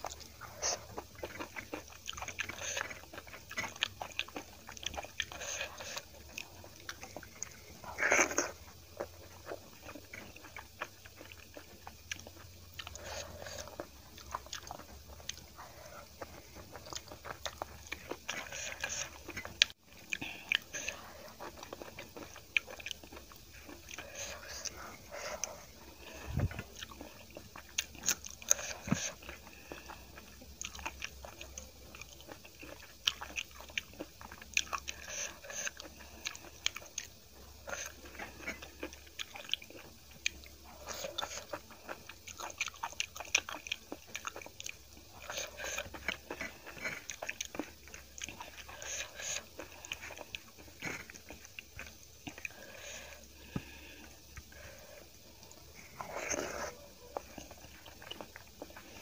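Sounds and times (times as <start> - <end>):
chewing and mouth smacks: 0.0 - 59.0.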